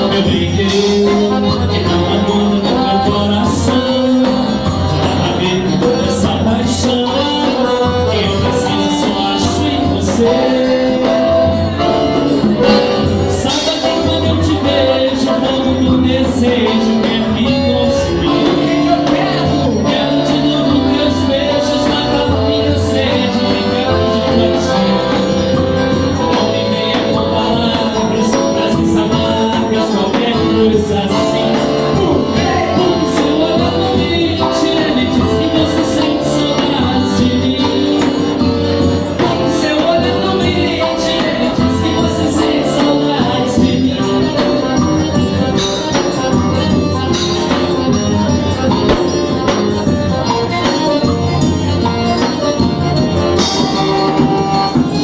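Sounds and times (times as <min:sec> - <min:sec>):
live band playing dance music: 0:00.0 - 0:55.0.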